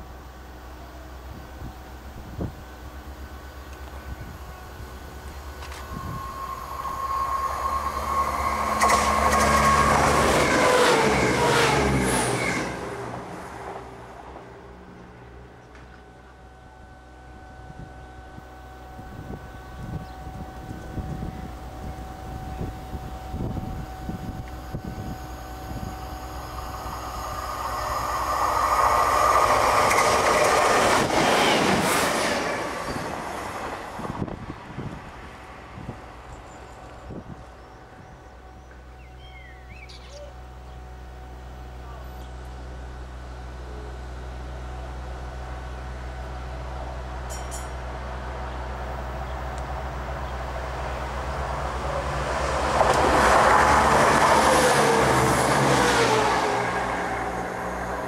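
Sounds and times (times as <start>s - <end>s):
train passing at speed: 0.0s - 39.8s, 42.7s - 58.0s.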